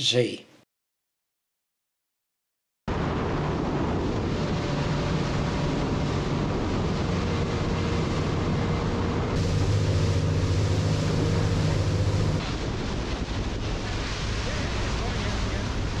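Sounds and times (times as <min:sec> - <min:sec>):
boat engine drone: 0:02.9 - 0:16.0
rush of wash and wind: 0:02.9 - 0:16.0.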